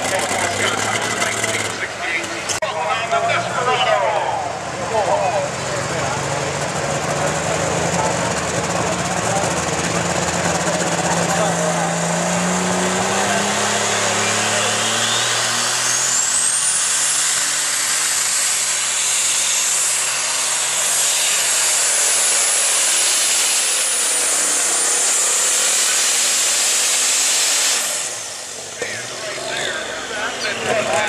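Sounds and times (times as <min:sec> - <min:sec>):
high turbocharger whine: 0:00.0 - 0:31.0
tractor engine at full power: 0:00.0 - 0:31.0.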